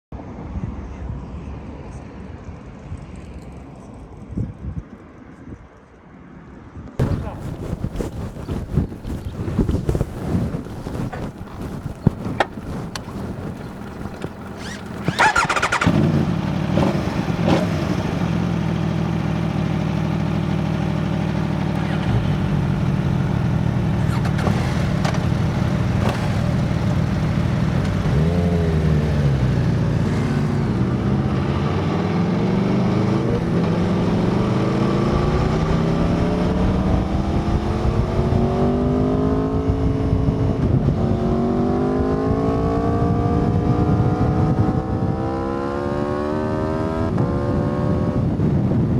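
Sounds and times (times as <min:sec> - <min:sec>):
motorcycle engine revving: 0:07.0 - 0:48.4.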